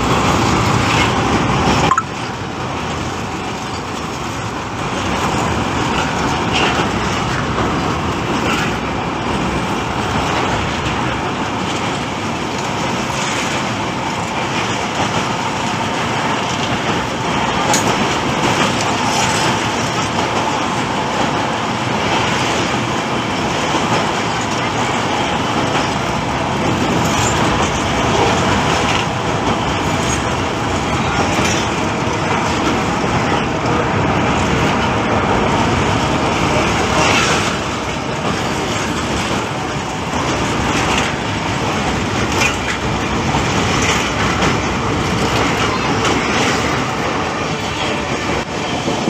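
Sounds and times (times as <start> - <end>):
passenger train running: 0.0 - 49.0.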